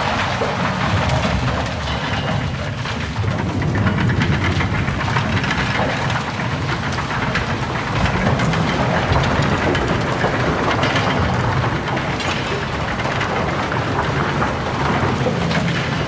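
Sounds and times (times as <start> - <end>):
roller coaster rumbling on track: 0.0 - 16.0
wheels rattling: 0.0 - 16.0.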